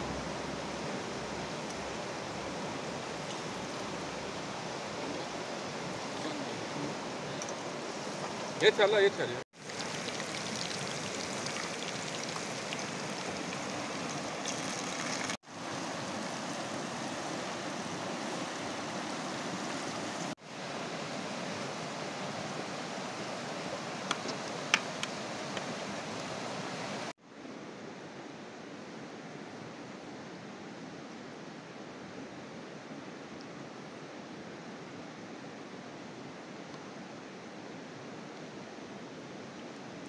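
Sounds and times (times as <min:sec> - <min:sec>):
stream flowing: 0:00.0 - 0:40.0.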